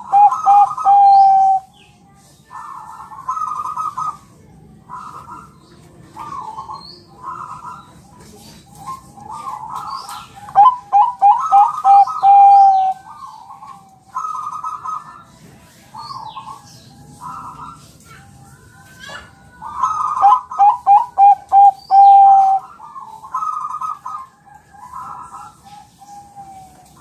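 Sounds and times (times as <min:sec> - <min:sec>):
dove cooing: 0:00.0 - 0:01.7, 0:02.5 - 0:15.4, 0:18.5 - 0:27.0
small birds chirping: 0:00.0 - 0:27.0.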